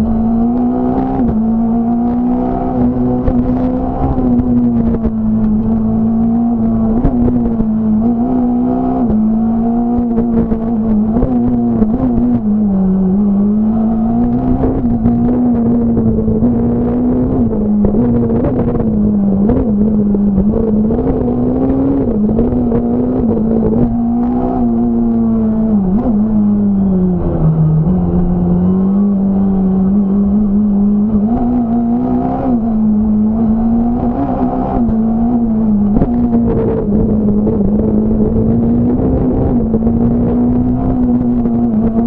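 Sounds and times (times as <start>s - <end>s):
rally car engine at high revs: 0.0s - 42.0s.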